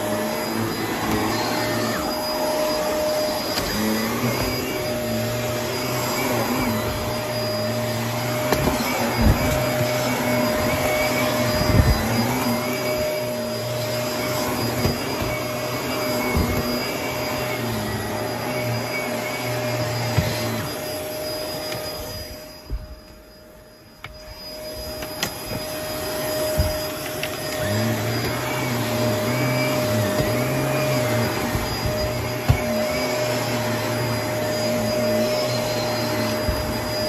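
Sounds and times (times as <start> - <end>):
vacuum cleaner motor whine: 0.0 - 37.0.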